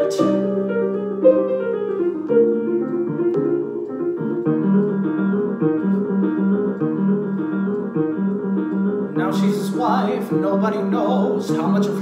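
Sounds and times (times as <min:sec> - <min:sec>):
piano playing chords and melody: 0:00.0 - 0:12.0.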